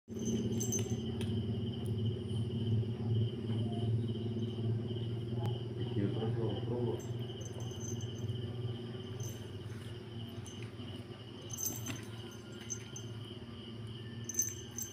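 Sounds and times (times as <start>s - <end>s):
crickets trilling: 0.1s - 14.9s
low steady hum: 0.1s - 14.9s.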